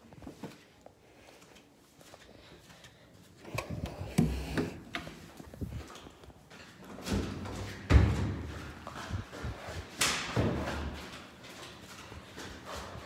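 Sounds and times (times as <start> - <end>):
footsteps on wooden stairs: 2.0 - 13.0.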